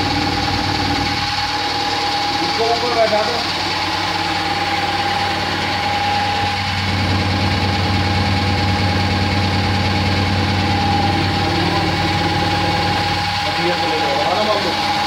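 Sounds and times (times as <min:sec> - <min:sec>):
pasta machine running: 0:00.0 - 0:15.0.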